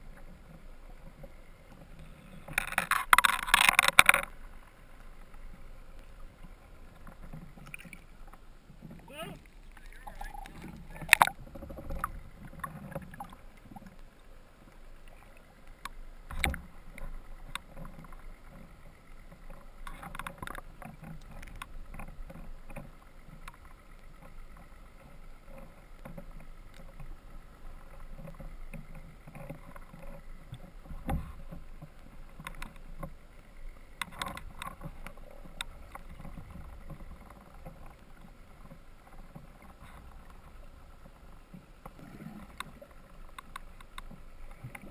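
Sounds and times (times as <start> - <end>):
faint steady hum: 0.0 - 44.9
water sloshing and swirling: 0.0 - 44.9.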